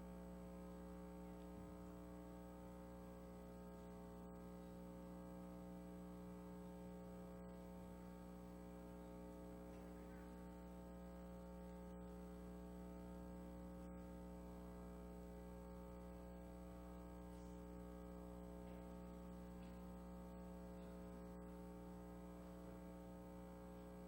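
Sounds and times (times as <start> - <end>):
electrical hum and buzz: 0.0 - 24.0.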